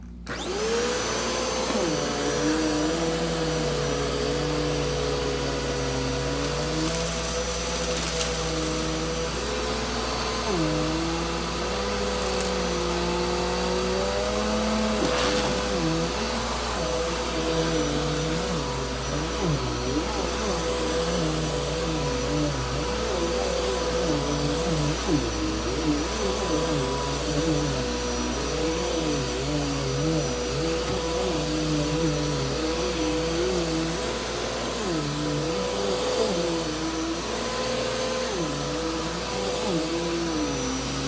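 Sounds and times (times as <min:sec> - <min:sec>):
vacuum cleaner motor whining: 0:00.0 - 0:41.0.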